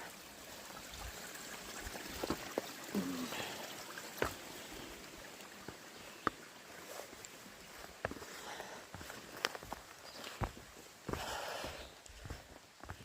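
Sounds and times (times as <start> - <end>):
stream flowing over rocks: 0.0 - 12.9.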